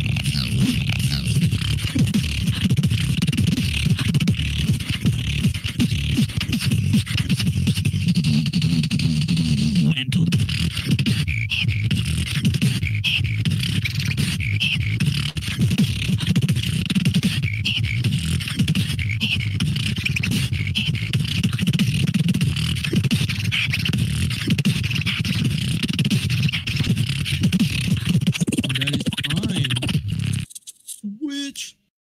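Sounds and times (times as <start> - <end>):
beatboxing: 0.0 - 31.9.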